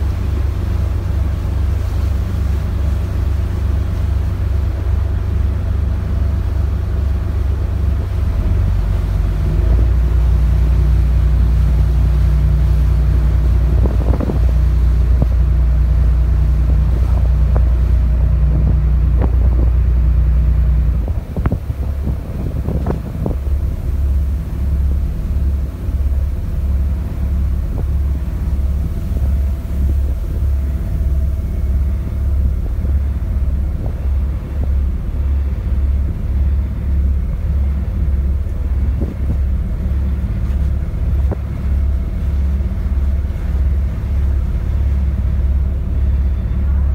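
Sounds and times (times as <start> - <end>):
ferry engine rumbling: 0.0 - 46.9.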